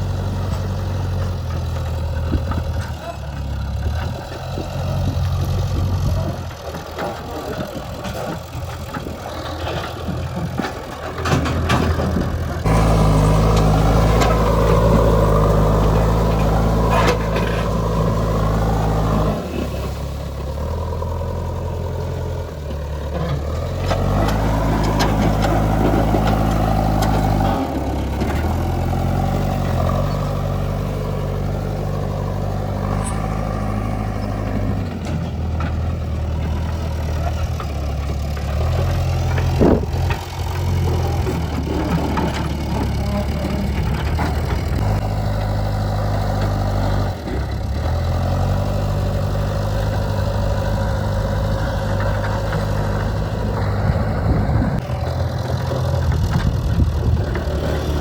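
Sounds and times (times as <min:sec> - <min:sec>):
diesel engine revving under load: 0:00.0 - 0:58.0.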